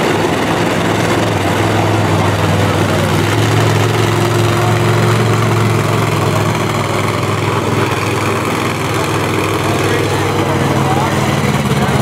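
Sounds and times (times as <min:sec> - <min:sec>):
truck engine idling low: 0:00.0 - 0:12.0.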